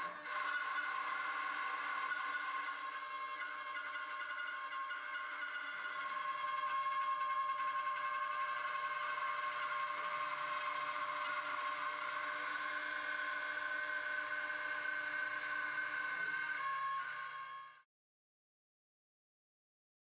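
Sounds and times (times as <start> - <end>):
router spindle whine: 0.0 - 17.8.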